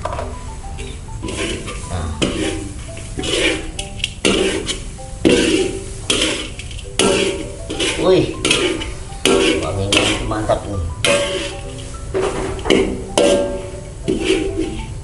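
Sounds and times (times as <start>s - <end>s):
metal spatula scraping wok: 0.8s - 15.0s.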